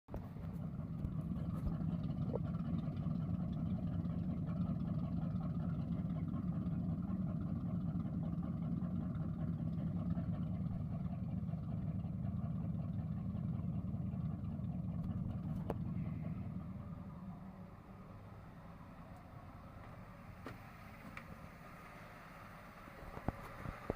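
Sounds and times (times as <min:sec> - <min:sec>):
boat engines idling: 0:00.1 - 0:23.9.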